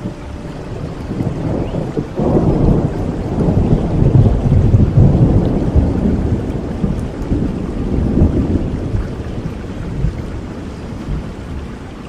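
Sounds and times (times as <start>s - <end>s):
steady rain: 0.0s - 12.0s
thunder rumbling: 0.0s - 12.0s.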